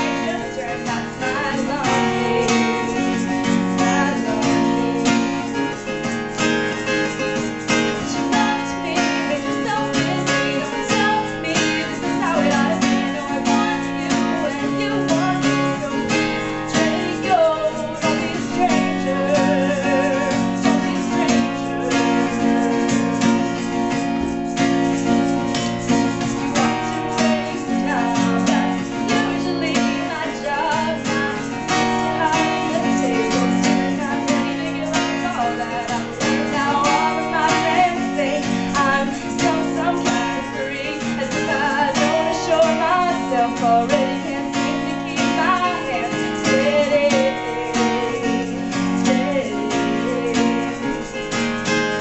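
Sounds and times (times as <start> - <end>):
strummed acoustic guitar: 0.0 - 52.0
woman singing: 0.0 - 52.0.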